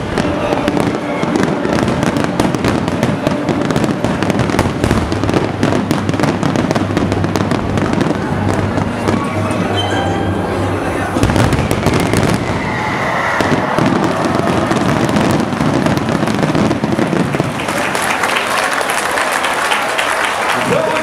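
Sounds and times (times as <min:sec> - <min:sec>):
fireworks bursting and crackling: 0:00.0 - 0:09.8, 0:11.1 - 0:19.3.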